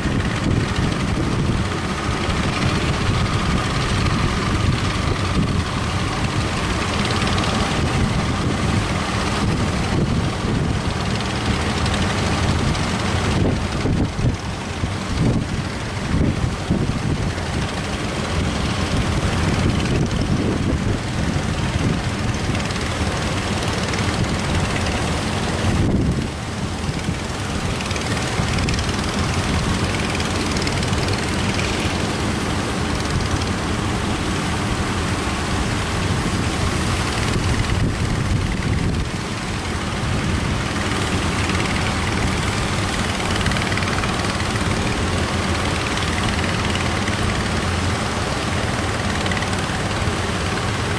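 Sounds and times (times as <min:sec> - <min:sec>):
breaking surf rumble: 0:00.0 - 0:50.9
wind buffeting microphone: 0:00.0 - 0:50.9.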